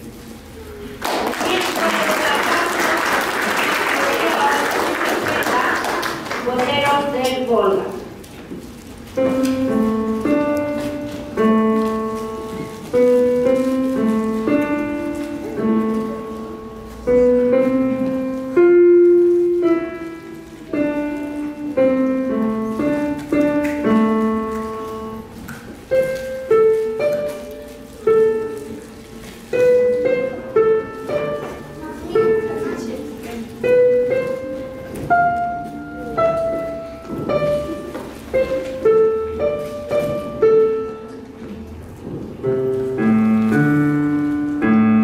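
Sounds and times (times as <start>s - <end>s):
digital piano melody: 4.0s - 45.0s.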